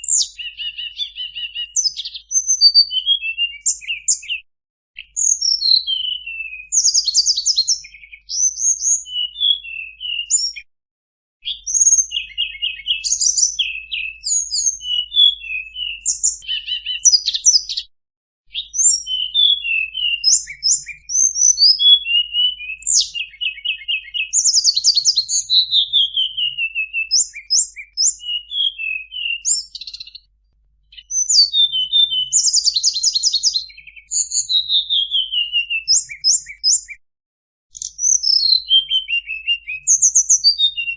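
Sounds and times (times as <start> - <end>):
songbird chirps and trills: 0.0 - 4.4, 5.0 - 10.6, 11.5 - 17.8, 18.5 - 30.3, 30.9 - 37.0, 37.7 - 40.9.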